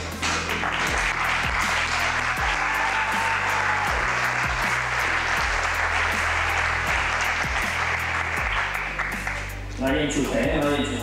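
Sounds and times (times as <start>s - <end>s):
audience applauding: 0.0s - 9.6s
background music with bass beat: 0.0s - 11.0s.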